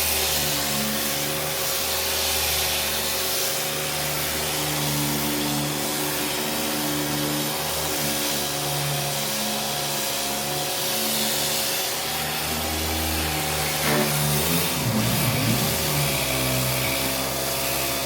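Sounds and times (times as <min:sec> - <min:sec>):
power sander hissing: 0:00.0 - 0:18.0.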